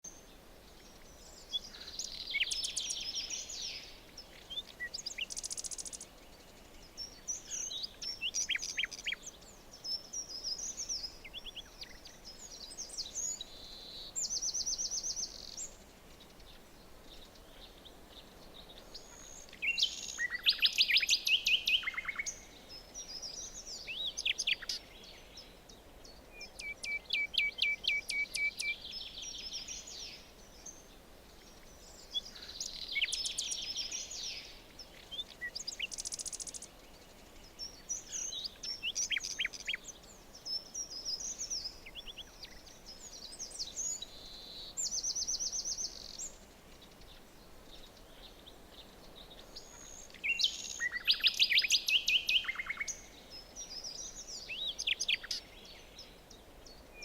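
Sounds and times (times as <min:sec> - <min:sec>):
faint steady hiss: 0:00.0 - 0:57.0
songbirds singing: 0:00.0 - 0:57.0.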